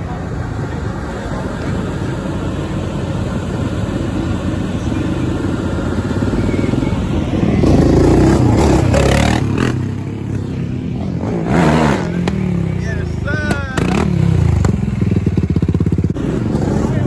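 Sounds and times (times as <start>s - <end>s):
car engines rumbling: 0.0s - 17.0s
engine revving: 1.8s - 17.0s.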